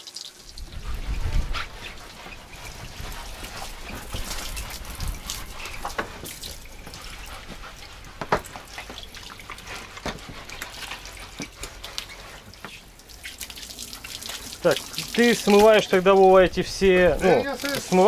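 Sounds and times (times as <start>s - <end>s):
hose water splashing on deck: 0.0s - 18.0s.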